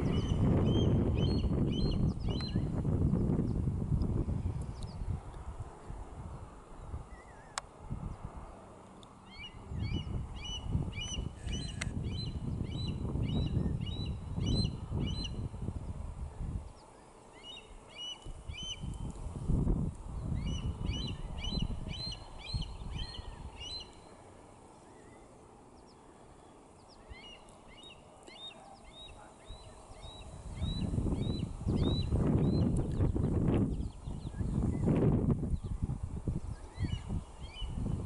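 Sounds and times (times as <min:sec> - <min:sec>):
wind rumble on microphone: 0:00.0 - 0:08.7, 0:09.4 - 0:16.9, 0:18.2 - 0:23.9, 0:29.0 - 0:38.0.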